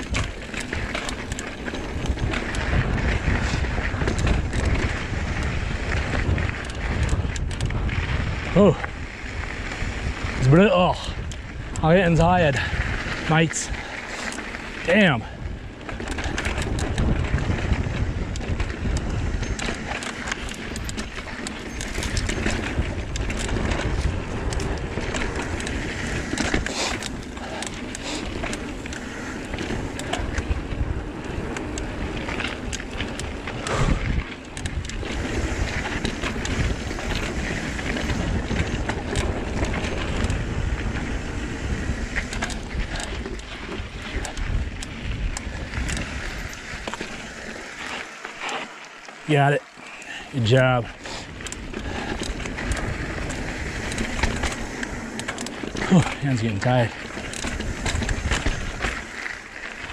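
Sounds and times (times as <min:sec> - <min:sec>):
bike rattling: 0:00.0 - 0:59.9
bike tyres rolling on dirt: 0:00.0 - 0:59.9
wind rushing over microphone: 0:00.0 - 0:59.9.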